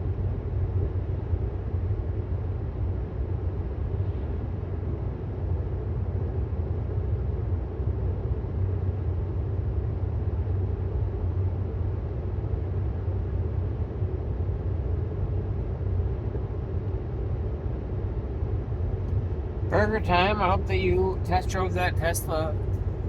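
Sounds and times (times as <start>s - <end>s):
faint hum: 0.0s - 23.0s
road and tyre noise in car: 0.0s - 23.0s.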